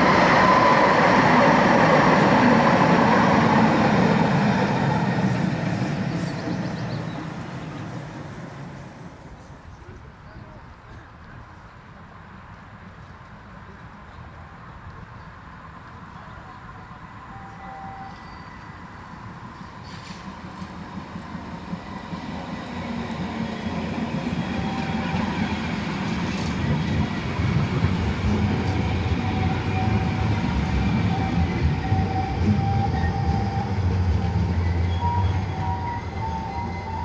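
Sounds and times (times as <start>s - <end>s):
tram passing with low rumble: 0.0s - 37.0s.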